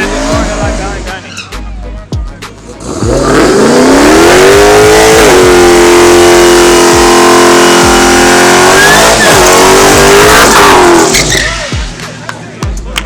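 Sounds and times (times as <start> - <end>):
car engine at full throttle: 0.0 - 1.8, 2.6 - 12.5.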